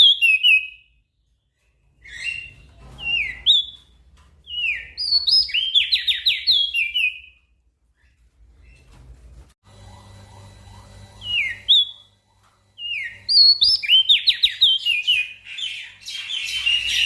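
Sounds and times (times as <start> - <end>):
bird twittering song: 0.0 - 9.0, 11.2 - 17.0.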